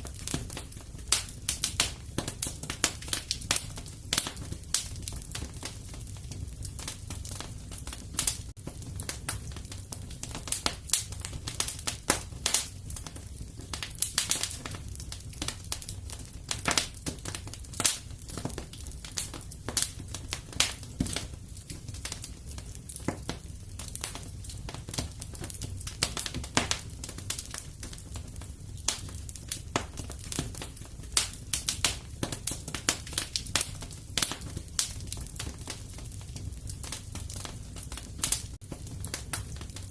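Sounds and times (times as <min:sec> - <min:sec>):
fire pops and snaps: 0:00.0 - 0:39.9
low rumble of flames: 0:00.0 - 0:39.9
wood fire crackling: 0:00.0 - 0:39.9.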